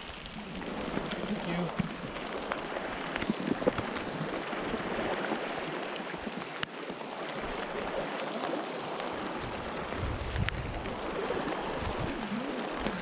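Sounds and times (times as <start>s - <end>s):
rushing river water: 0.0s - 13.0s
steady rain: 0.0s - 13.0s.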